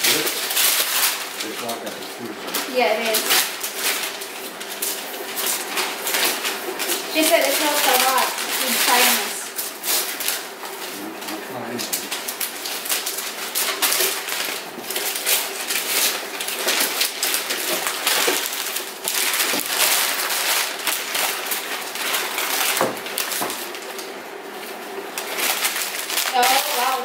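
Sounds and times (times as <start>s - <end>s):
paper rustling and crinkling: 0.0s - 27.0s.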